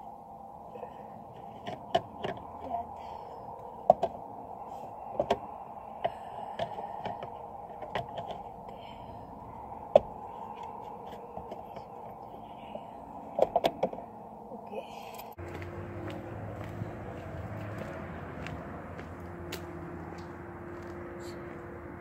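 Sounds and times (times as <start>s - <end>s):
muffled hum: 0.0s - 22.0s.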